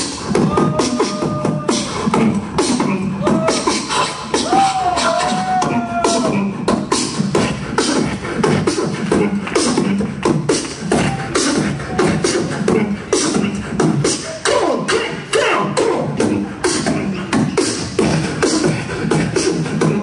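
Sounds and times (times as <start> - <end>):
beatboxing into a microphone: 0.0 - 20.0.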